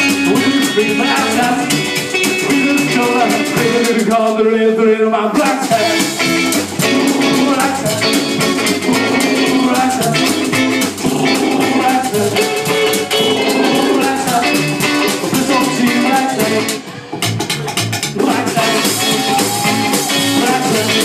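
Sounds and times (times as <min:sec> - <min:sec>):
electric guitar: 0:00.0 - 0:04.5, 0:05.4 - 0:21.0
drums: 0:00.0 - 0:21.0
upright bass: 0:00.0 - 0:21.0.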